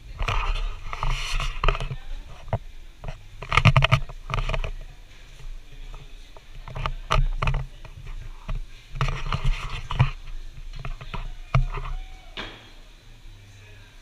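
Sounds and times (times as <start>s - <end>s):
light knocks and scrapes: 0.2s - 12.8s.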